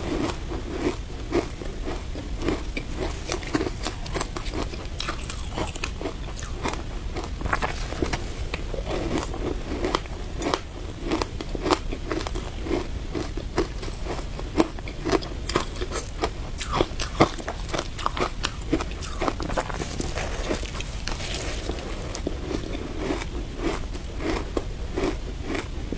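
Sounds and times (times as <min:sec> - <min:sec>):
teeth crunching shaved ice: 0:00.0 - 0:25.7.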